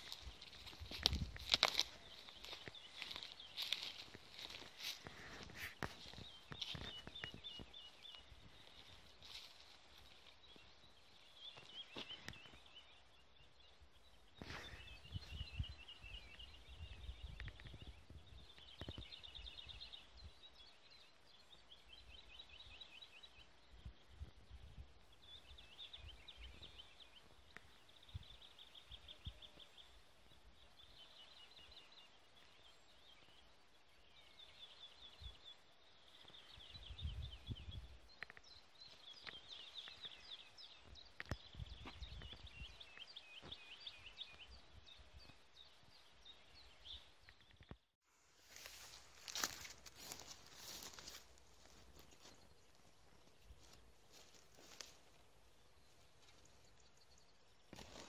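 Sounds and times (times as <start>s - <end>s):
songbirds trilling: 0.0s - 47.8s, 48.5s - 58.0s.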